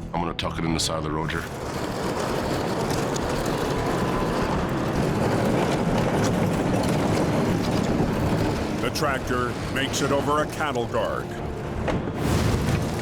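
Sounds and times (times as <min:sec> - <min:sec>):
heavy diesel engine under load: 0:01.4 - 0:12.2.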